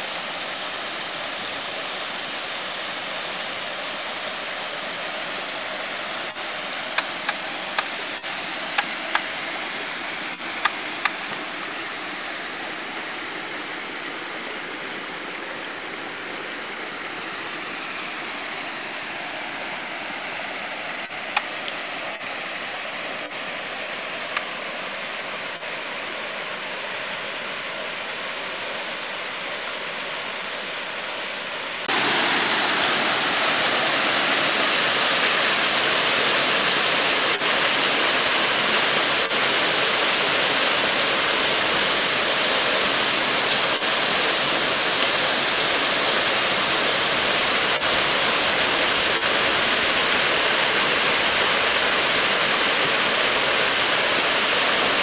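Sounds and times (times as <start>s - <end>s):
waterfall pouring into pool: 0.0s - 29.3s, 31.8s - 55.0s
creek water rushing: 0.0s - 55.0s.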